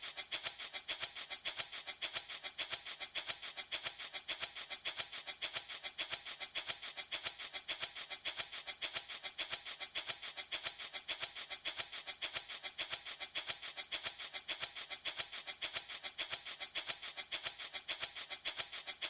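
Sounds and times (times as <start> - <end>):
rattle shaken: 0.0 - 19.0.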